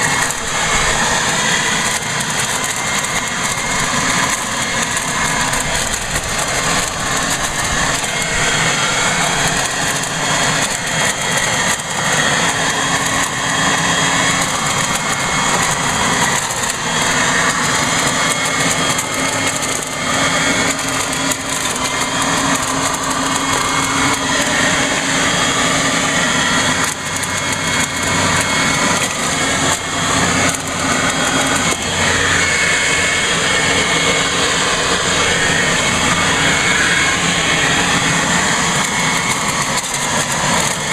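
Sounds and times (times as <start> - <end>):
leaf blower vacuum running: 0.0 - 40.9
leaves being sucked and shredded: 0.0 - 40.9.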